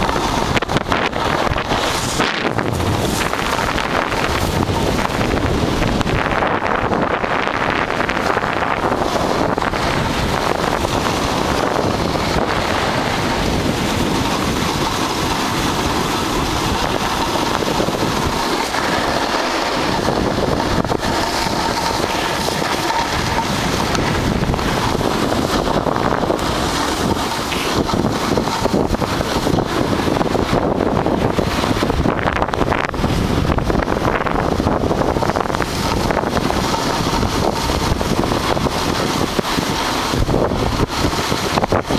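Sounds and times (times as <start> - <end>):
snowboard sliding over snow: 0.0 - 41.9
wind buffeting microphone: 0.0 - 41.9.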